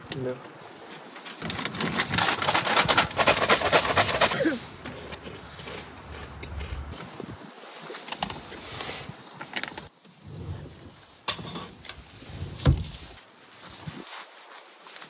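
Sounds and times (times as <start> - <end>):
rustling: 0.8 - 15.0.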